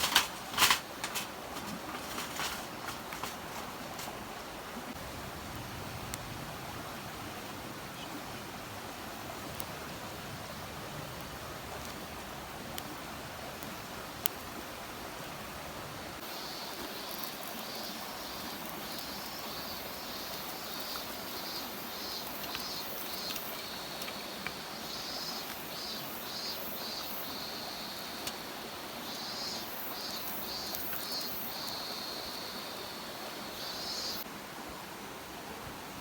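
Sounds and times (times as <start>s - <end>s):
steady rushing hiss: 0.0s - 36.0s.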